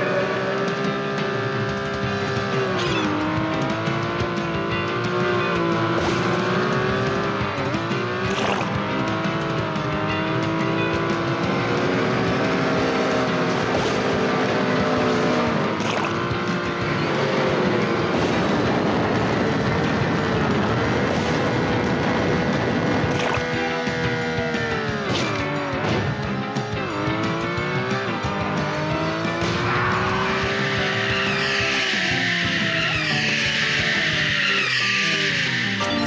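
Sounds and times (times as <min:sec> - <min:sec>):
race car engine at high revs: 0:00.0 - 0:36.0.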